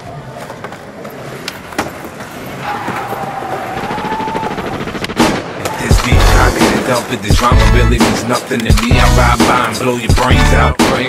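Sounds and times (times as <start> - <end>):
skateboard wheels rolling: 0.0 - 4.7, 5.5 - 10.1.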